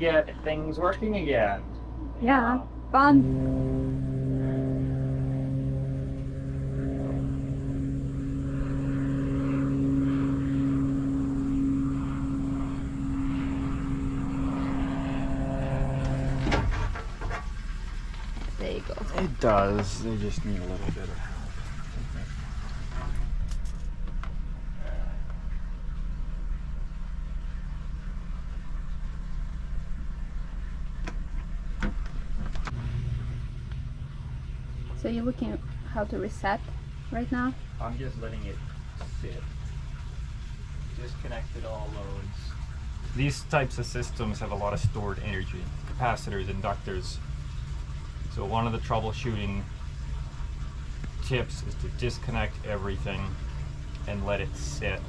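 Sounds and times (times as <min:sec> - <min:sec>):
engine droning steadily: 0:00.0 - 0:55.0
low mechanical hum: 0:00.0 - 0:55.0.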